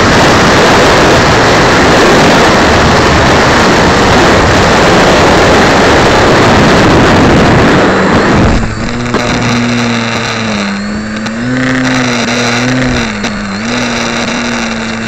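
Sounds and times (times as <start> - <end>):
model plane propeller noise: 0.0 - 15.0.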